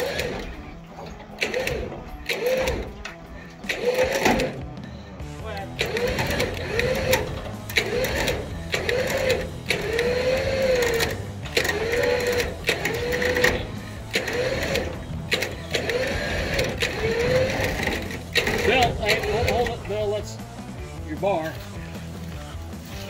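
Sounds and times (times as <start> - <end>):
winch motor whine: 0.0 - 20.8.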